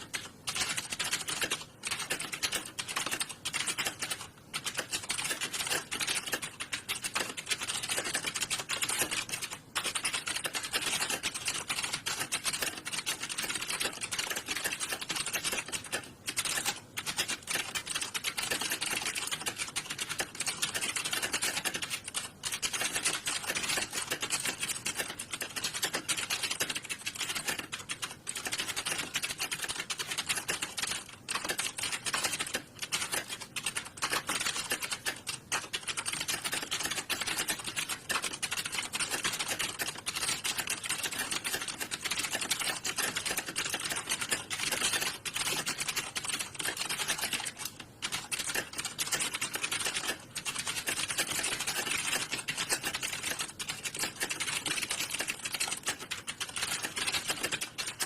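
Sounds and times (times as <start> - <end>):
rapid keyboard typing: 0.0 - 58.0.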